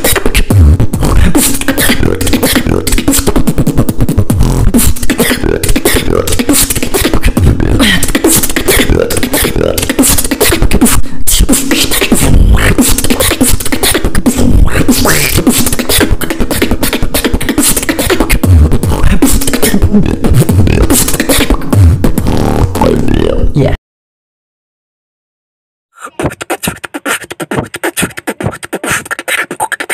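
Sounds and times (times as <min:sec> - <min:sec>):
beatboxing: 0:00.0 - 0:23.7, 0:26.0 - 0:29.9.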